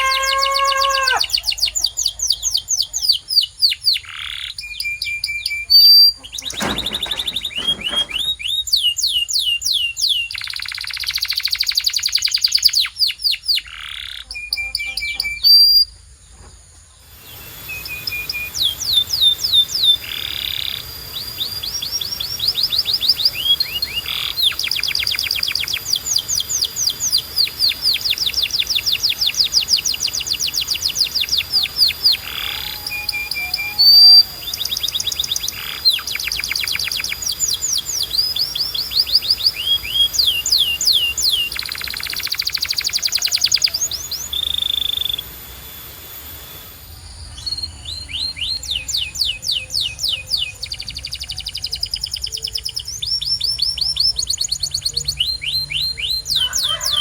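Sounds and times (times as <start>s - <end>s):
canary singing: 0.0s - 15.9s, 17.1s - 57.0s.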